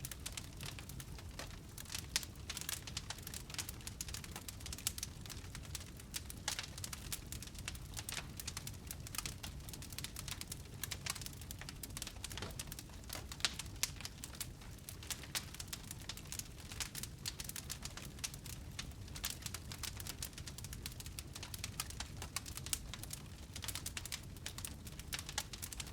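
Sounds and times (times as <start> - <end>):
crackling and popping wood fire: 0.0 - 25.9
low rumble of flames: 0.0 - 25.9.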